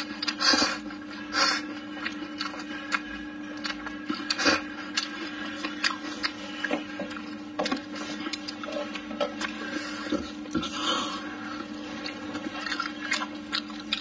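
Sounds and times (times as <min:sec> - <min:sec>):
wet chewing and lip smacks: 0:00.0 - 0:09.7, 0:11.5 - 0:14.0.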